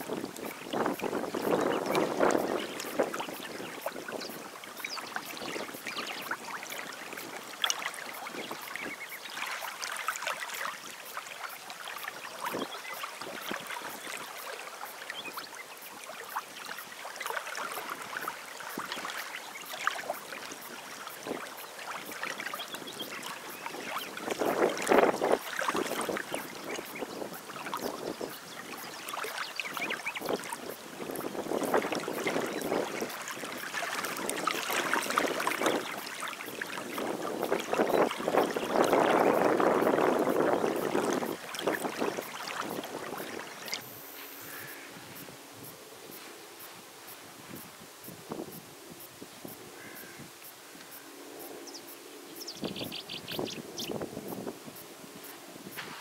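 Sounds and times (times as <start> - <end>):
water lapping at shoreline: 0.0 - 56.0.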